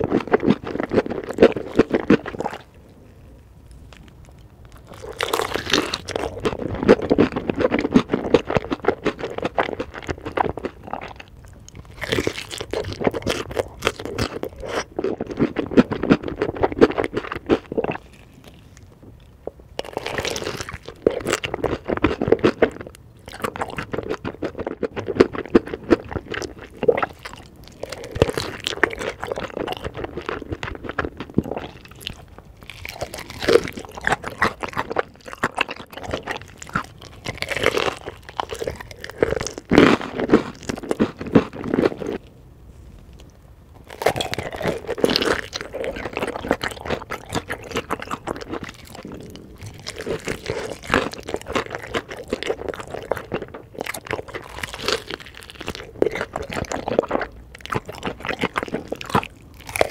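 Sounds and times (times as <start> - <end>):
crunching bites and chewing: 0.0 - 42.3, 42.9 - 59.9.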